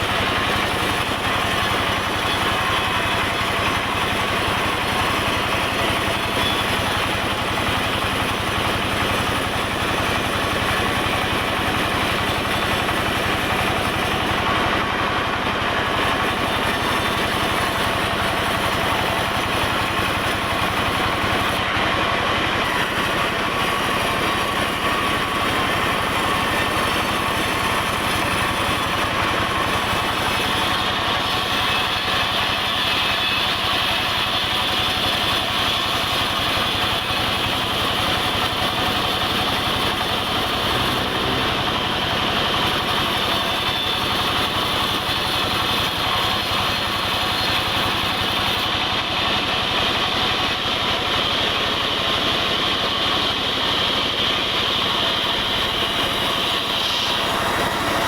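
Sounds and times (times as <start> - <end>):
saw blade whine: 0.0 - 58.0
sawmill machine drone: 0.0 - 58.0.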